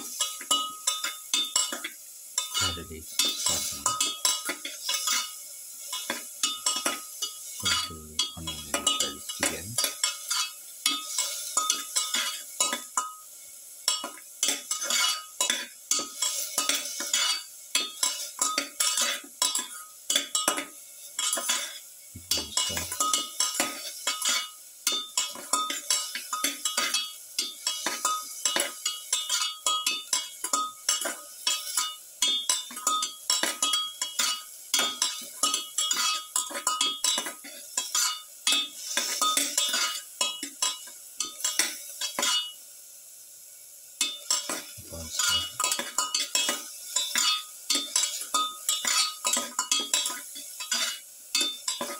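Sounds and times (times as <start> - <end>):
spoon scraping a metal pan: 0.0 - 13.2, 13.9 - 42.6, 44.0 - 51.9
faint sizzle: 0.0 - 51.9.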